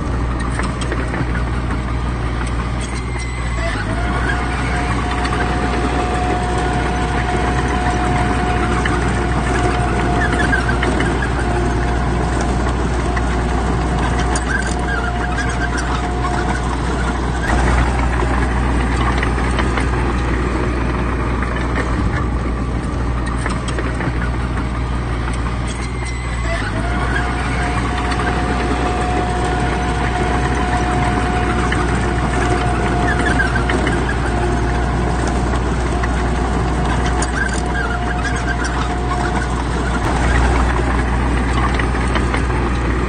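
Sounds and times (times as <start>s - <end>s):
diesel engines of heavy machinery: 0.0s - 43.0s
steady whine: 0.0s - 43.0s
metal clanks and knocks: 2.4s - 43.0s.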